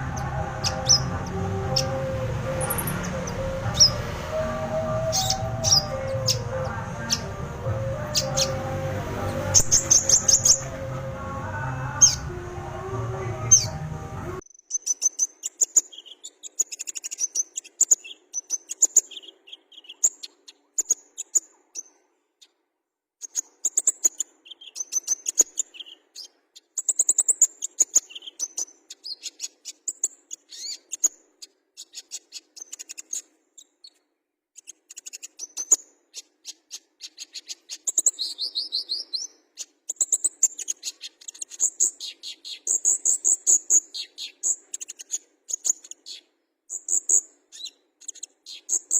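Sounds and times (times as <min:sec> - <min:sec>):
bird chirping and trilling: 0:00.0 - 0:22.6, 0:23.2 - 0:34.0, 0:34.6 - 0:48.9.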